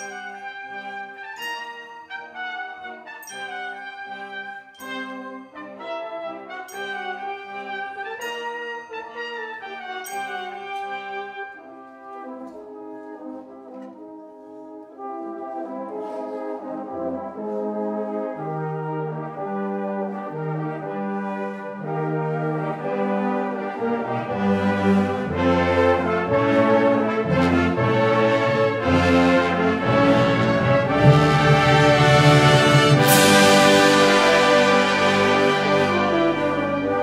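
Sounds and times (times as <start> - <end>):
brass band playing: 0.0 - 37.0.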